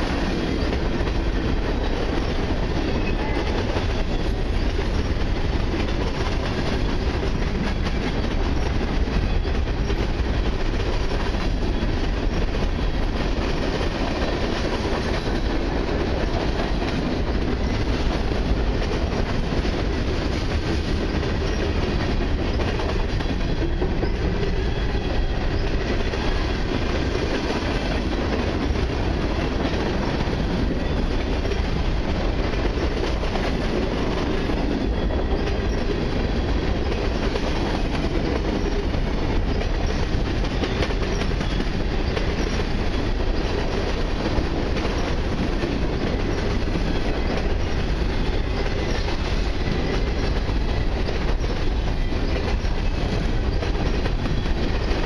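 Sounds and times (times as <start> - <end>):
rumble of train wheels on rails: 0.0 - 55.0.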